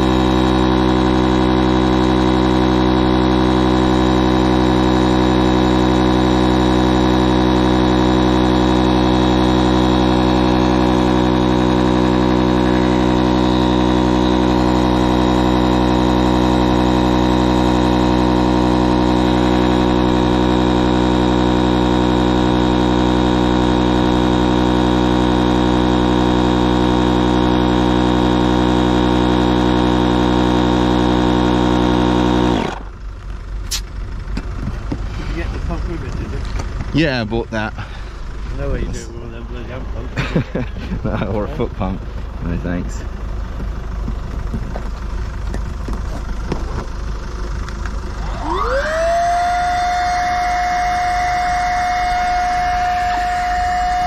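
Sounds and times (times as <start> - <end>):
electric inflation pump humming: 0.0 - 35.8, 39.8 - 54.0.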